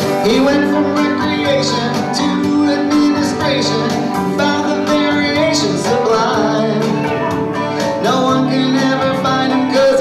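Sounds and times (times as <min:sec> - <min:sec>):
person singing: 0:00.0 - 0:10.0
plucked guitar: 0:00.0 - 0:10.0.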